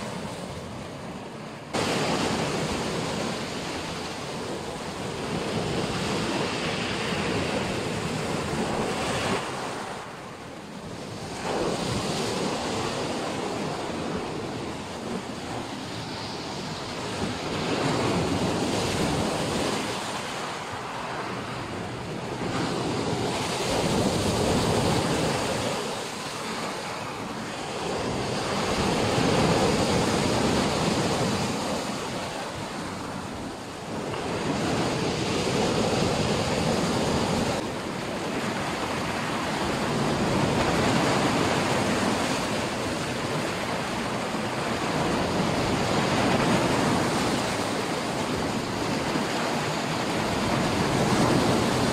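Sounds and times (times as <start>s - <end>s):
waves breaking on shore: 0.0s - 51.9s.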